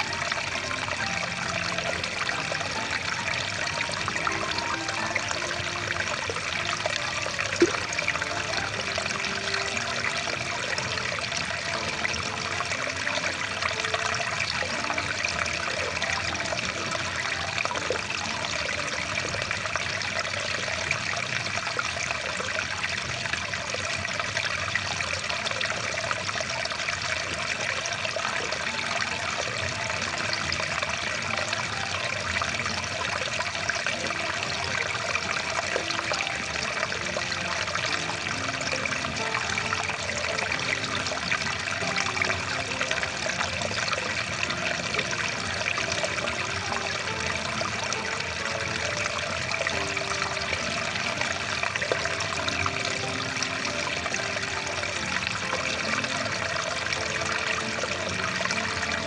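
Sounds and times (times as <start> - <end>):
water stream rushing: 0.0 - 59.0.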